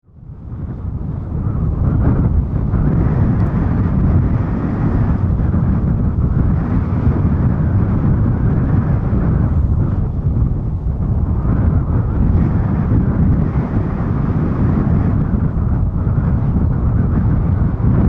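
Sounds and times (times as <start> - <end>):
wind buffeting microphone: 0.0 - 18.0
jet engines roaring: 0.1 - 18.0.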